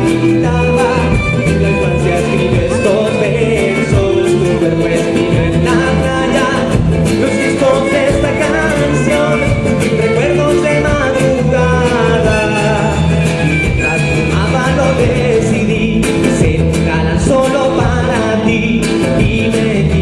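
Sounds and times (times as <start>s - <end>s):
band playing folk song: 0.0s - 20.0s
guitar: 0.0s - 20.0s.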